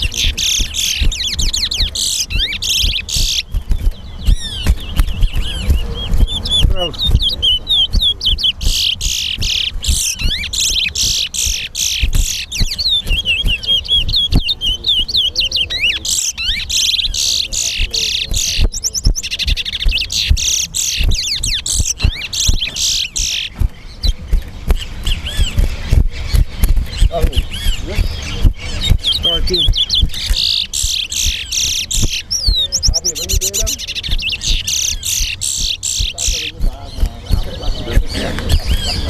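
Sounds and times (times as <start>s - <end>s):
low thumps and clicks: 0.0s - 15.8s, 16.4s - 39.0s
finches warbling and trilling: 0.0s - 39.0s.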